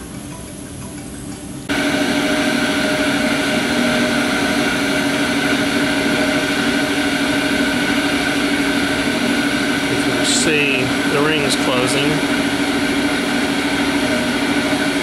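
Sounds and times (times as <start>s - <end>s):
machine drive humming: 0.0s - 15.0s.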